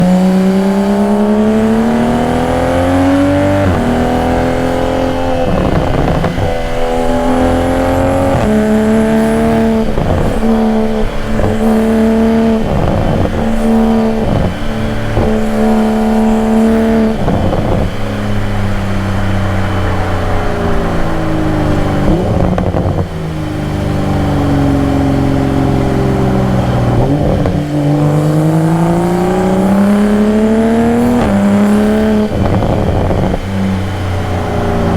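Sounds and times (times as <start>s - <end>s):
car engine accelerating through gears: 0.0s - 34.9s.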